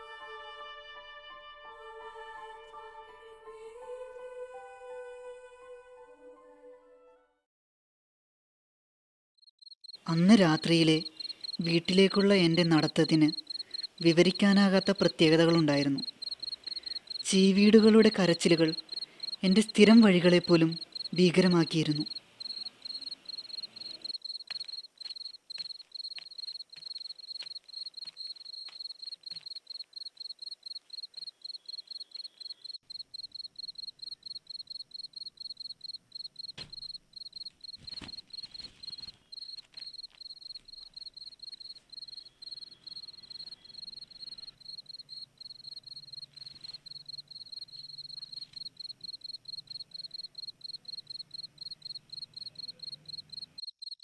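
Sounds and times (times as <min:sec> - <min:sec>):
crickets chirping: 0:09.5 - 0:54.0.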